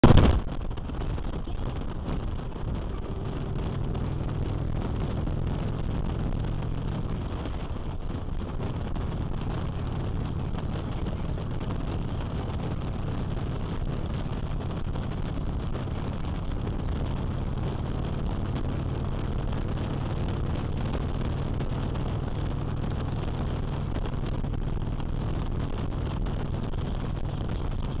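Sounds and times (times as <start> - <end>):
motorcycle engine running: 0.0 - 28.0
wind rush on microphone: 0.0 - 28.0.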